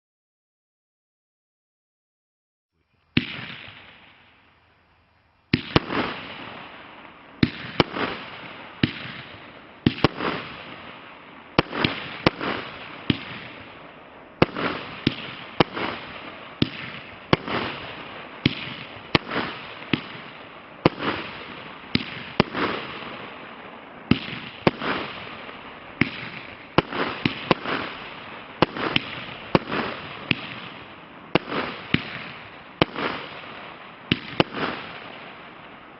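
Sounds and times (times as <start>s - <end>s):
fireworks bangs: 3.1s - 4.6s, 5.5s - 35.9s.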